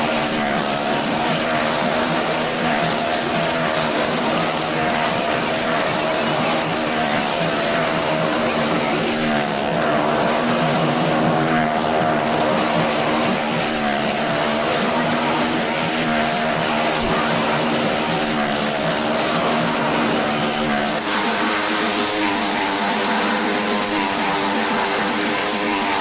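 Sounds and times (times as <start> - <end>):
motorcycle and car engines droning: 0.0 - 26.0.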